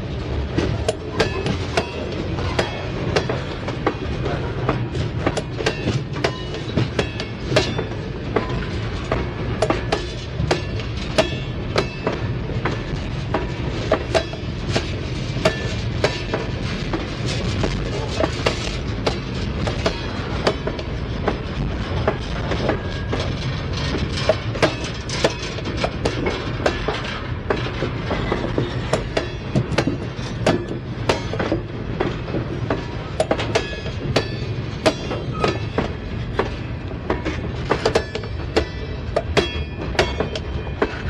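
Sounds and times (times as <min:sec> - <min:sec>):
freight train rumbling: 0:00.0 - 0:41.0
wheels clicking over rail joints: 0:00.5 - 0:41.0.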